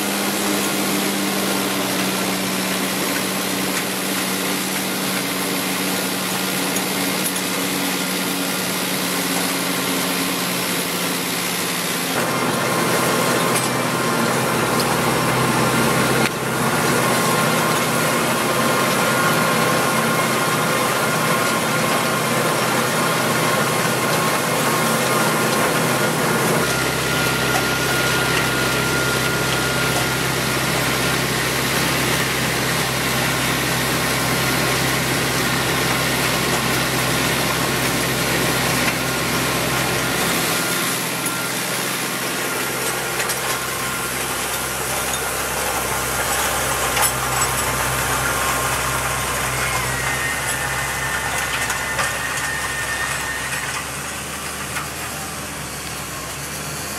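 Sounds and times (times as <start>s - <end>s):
tractor engine droning: 0.0s - 56.9s.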